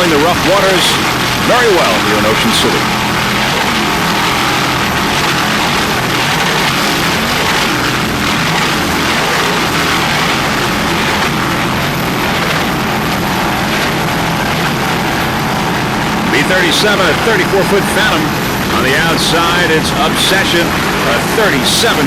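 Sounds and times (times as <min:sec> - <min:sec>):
helicopter engine and rotor: 0:00.0 - 0:22.0
powerboat engines: 0:00.0 - 0:22.0.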